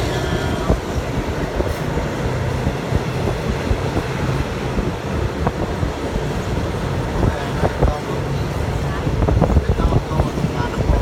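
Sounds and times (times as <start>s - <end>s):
train rumbling on track: 0.0s - 11.0s
wind noise on microphone: 0.0s - 11.0s.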